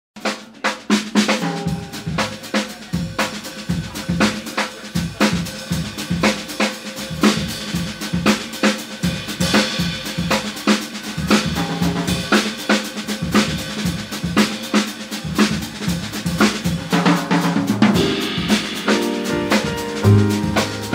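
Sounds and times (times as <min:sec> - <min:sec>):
drum kit groove: 0:00.2 - 0:20.9
jazz quartet playing: 0:01.0 - 0:20.9.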